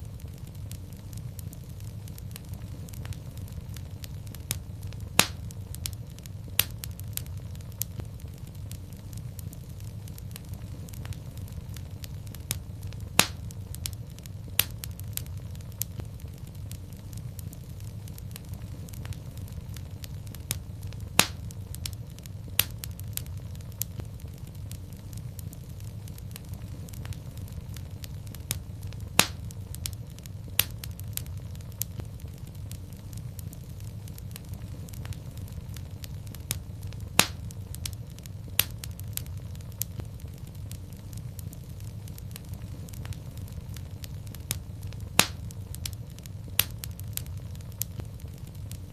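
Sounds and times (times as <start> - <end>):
loud pops of fire: 0.0 - 48.9
low rumble of flame: 0.0 - 48.9
wood fire crackling: 0.0 - 48.9.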